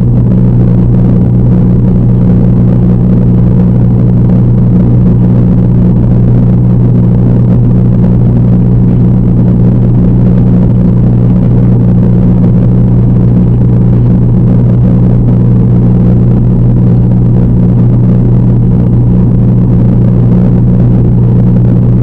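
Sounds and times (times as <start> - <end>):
water pump humming underwater: 0.0 - 22.0.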